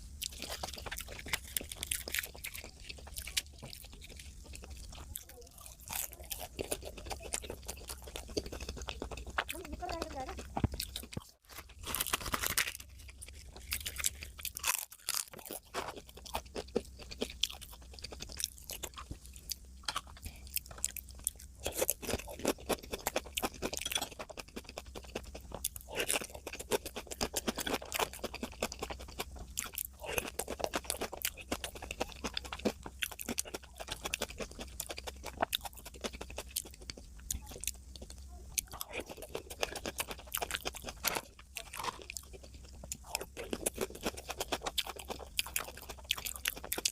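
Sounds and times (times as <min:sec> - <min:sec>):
faint low hum: 0:00.0 - 0:46.9
person chewing and crunching: 0:00.0 - 0:46.9.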